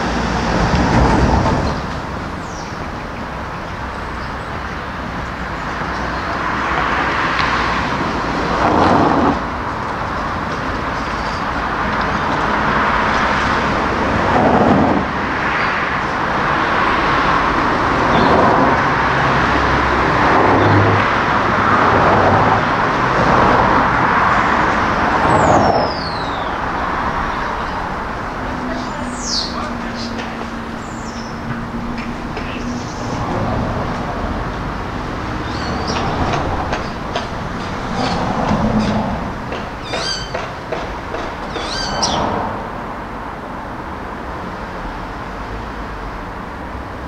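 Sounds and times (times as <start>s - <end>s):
cars passing by: 0.0s - 47.0s
road traffic hum: 0.0s - 47.0s.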